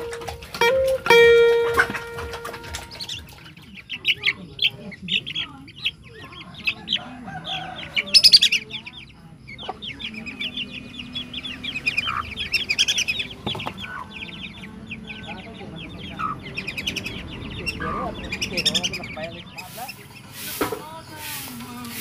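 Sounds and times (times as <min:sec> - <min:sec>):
caged birds chirping: 0:00.0 - 0:22.0.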